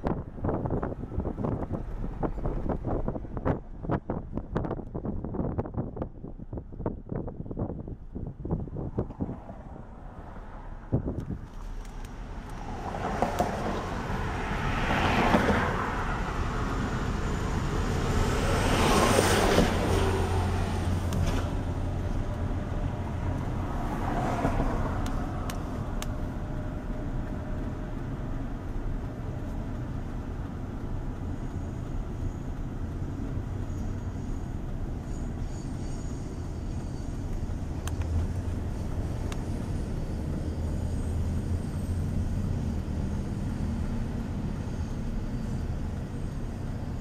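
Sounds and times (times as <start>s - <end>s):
low engine hum: 0.0s - 47.0s
distant traffic: 8.0s - 47.0s
vehicles swishing past: 8.8s - 47.0s.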